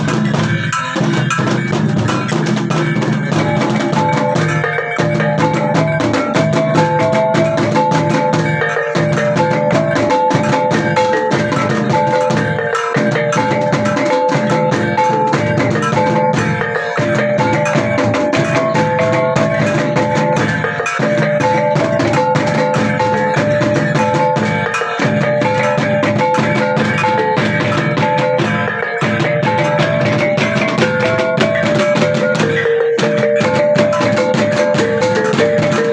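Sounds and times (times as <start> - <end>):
drums beating a steady rhythm: 0.0 - 35.9
short pitched percussion notes: 0.0 - 35.9.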